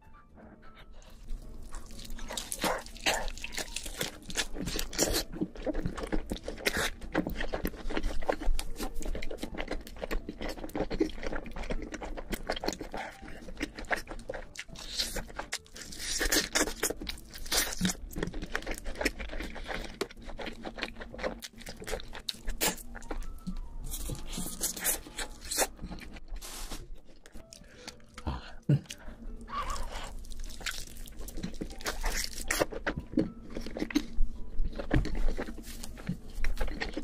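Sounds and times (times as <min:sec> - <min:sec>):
crunching fried chicken: 0:01.3 - 0:26.2, 0:29.5 - 0:37.0.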